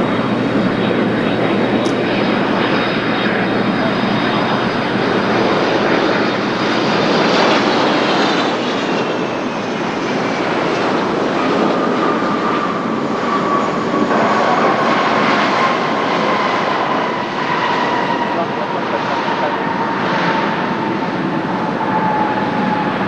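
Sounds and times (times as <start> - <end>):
jet airliner landing: 0.0 - 23.0
low sinking whine: 0.0 - 23.0.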